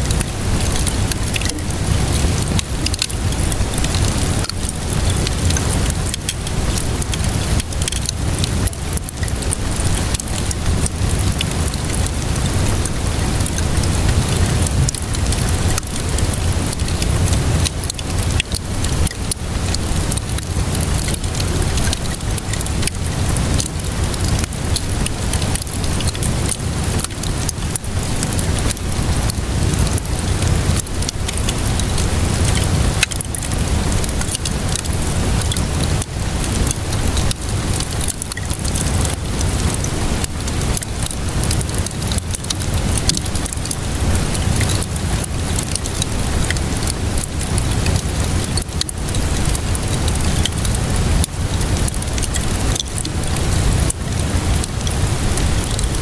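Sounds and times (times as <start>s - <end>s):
steady rainfall: 0.0s - 56.0s
wood fire crackling and popping: 0.0s - 56.0s.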